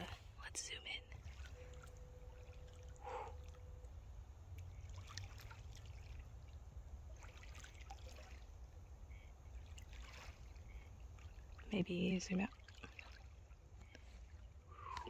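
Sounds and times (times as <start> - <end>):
water lapping at rocks: 1.1 - 15.0.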